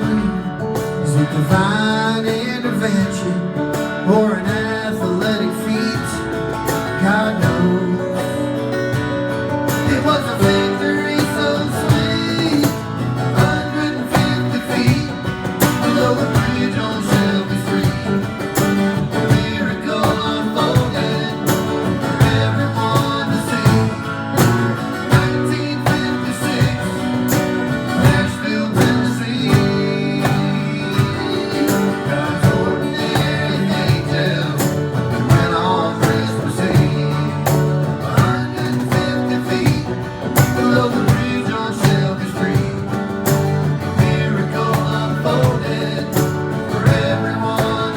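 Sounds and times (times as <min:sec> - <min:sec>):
guitar: 0:00.0 - 0:47.9
live band playing: 0:06.0 - 0:47.9.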